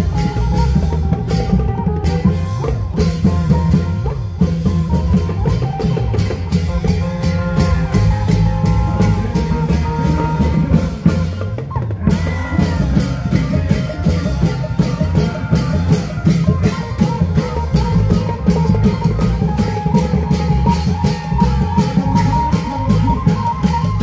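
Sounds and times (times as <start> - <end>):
long-drum band beat: 0.0 - 24.0
melody over drums: 0.0 - 24.0.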